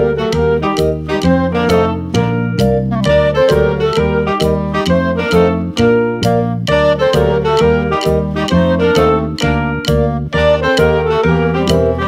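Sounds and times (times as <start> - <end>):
keyboard music with steady beat: 0.0 - 12.0.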